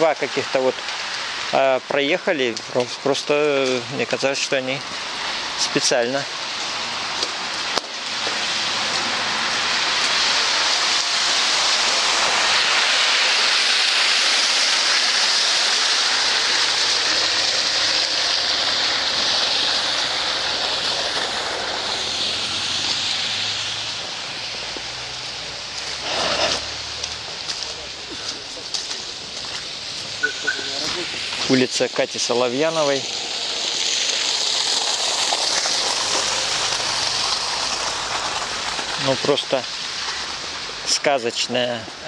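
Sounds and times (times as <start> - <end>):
car tyres hissing through slush: 0.0 - 42.0.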